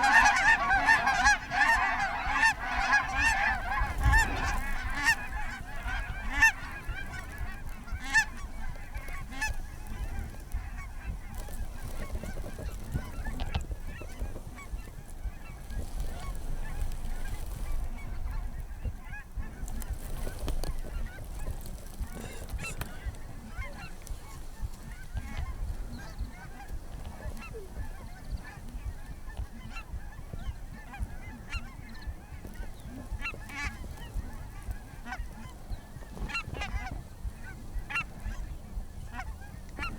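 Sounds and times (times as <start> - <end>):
geese honking and clucking: 0.0 - 39.9.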